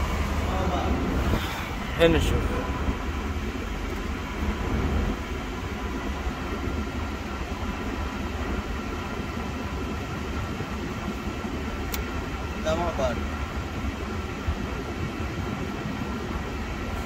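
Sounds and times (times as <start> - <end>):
air conditioning blower rushing: 0.0 - 17.0
car engine idling: 0.0 - 17.0.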